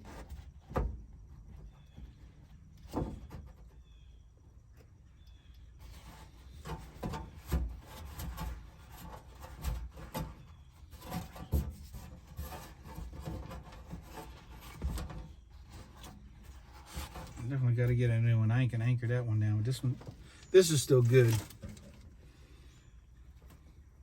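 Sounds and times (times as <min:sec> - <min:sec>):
scraping and rubbing: 0:00.0 - 0:03.8, 0:05.7 - 0:18.3, 0:19.8 - 0:23.8.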